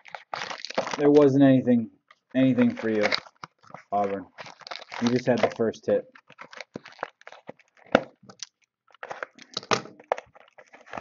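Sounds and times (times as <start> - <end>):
foil wrappers crinkling: 0.0 - 1.2, 2.4 - 11.0.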